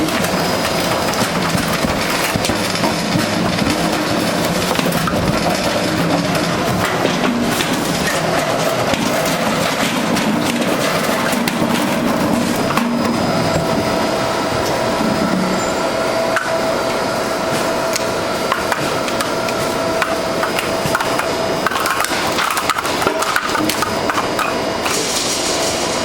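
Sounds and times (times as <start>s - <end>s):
machine whine: 0.0s - 26.0s.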